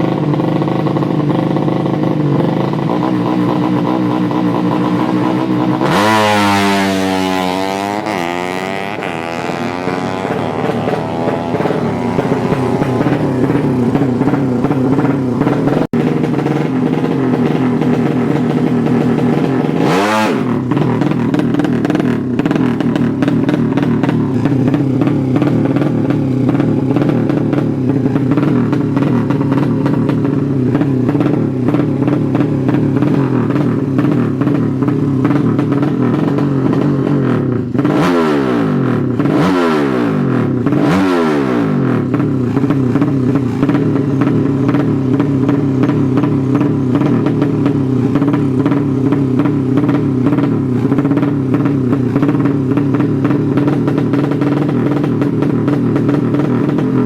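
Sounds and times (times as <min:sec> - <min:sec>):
motorcycle engine revving high: 0:00.0 - 0:57.0.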